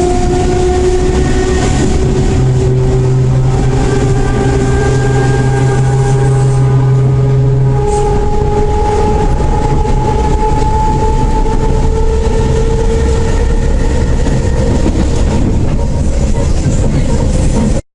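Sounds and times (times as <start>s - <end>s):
deep hum: 0.0s - 17.2s
heavy train rumble: 0.0s - 17.8s
train traction motors whining: 0.0s - 17.8s.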